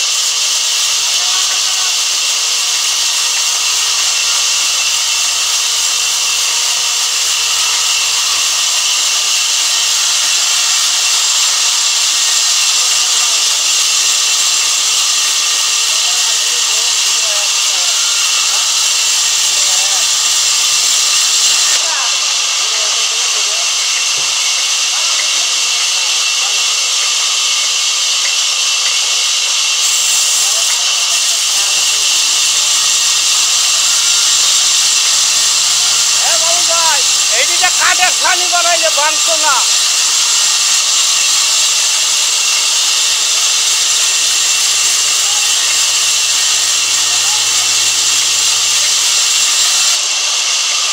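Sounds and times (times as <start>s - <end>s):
band saw cutting wood: 0.0s - 50.9s.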